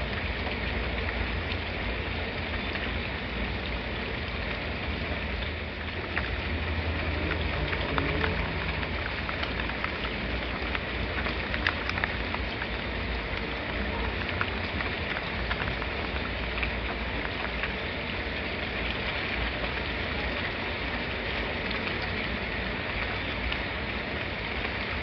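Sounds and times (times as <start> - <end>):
raindrops ticking: 0.0 - 25.0
steady rain falling: 0.0 - 25.0.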